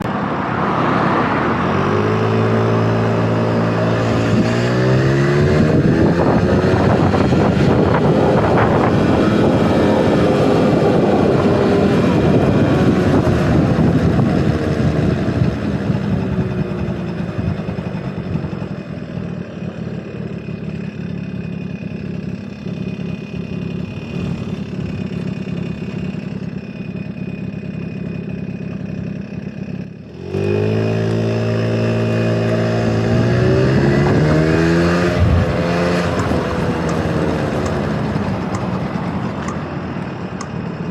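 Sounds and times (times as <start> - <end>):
scooter two-stroke engine revving: 0.0 - 40.9.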